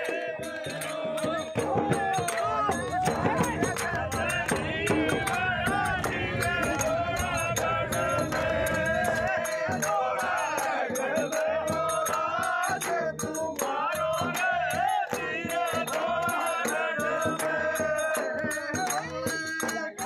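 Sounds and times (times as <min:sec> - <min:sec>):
shaker-like percussion rhythm: 0:00.0 - 0:20.0
wavering singing voice: 0:00.0 - 0:20.0.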